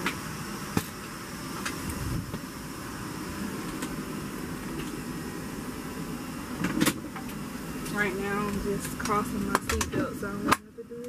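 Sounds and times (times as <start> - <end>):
cabin air system rushing hum: 0.0 - 11.0
faint high whine: 0.0 - 11.0.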